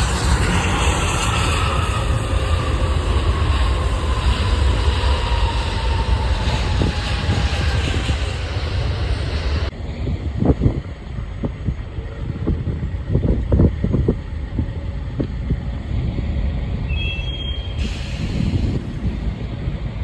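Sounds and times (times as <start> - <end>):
jet airliner engines whining: 0.0 - 20.0.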